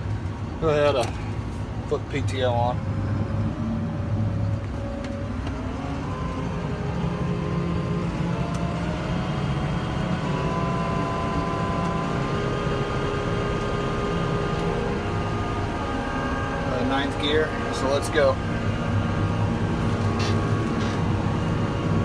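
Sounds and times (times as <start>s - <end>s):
tractor engine running: 0.0s - 22.0s
mower whining: 3.2s - 22.0s.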